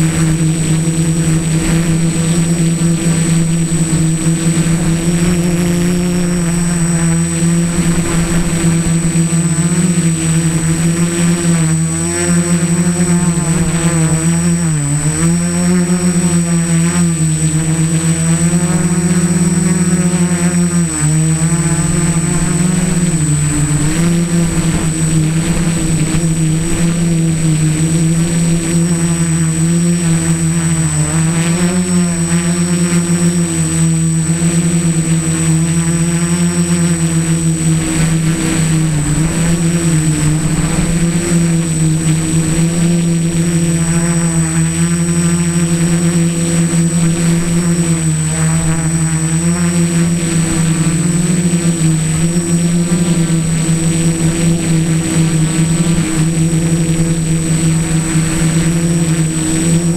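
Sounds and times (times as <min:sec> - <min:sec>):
drone motors and propellers buzzing: 0:00.0 - 0:59.9
thin high whine: 0:00.0 - 0:59.9.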